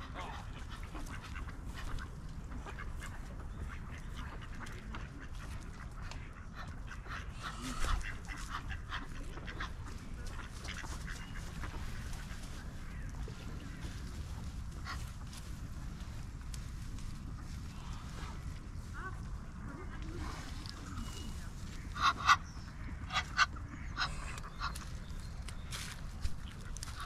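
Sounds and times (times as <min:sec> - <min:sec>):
ducks quacking: 0:00.0 - 0:16.5, 0:17.1 - 0:27.0
steady low rumble: 0:00.0 - 0:27.0.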